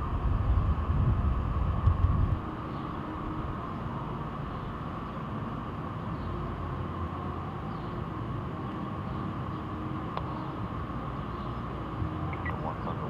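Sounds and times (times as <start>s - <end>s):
constant hum: 0.0s - 13.0s
engine rumble: 0.0s - 13.0s.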